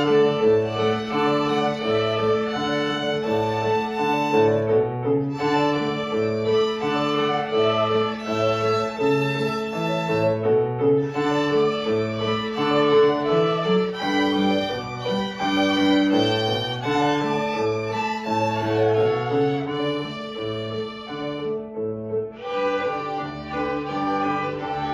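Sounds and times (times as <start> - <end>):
violin ensemble playing: 0.0 - 21.7, 22.3 - 24.9.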